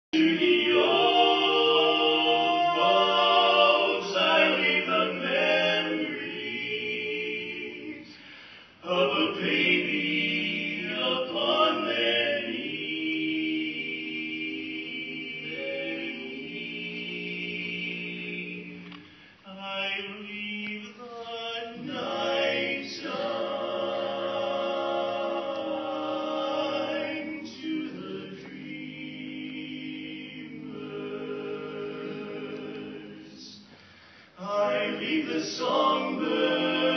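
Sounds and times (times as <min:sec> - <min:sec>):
men singing a cappella harmony: 0:00.2 - 0:36.9.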